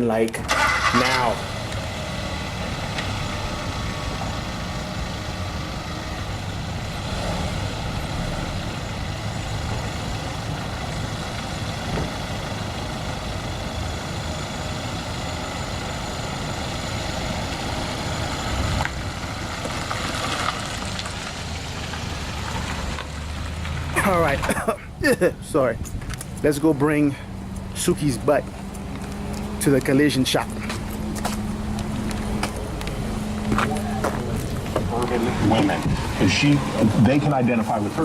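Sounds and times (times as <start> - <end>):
car engine humming: 0.0 - 38.0.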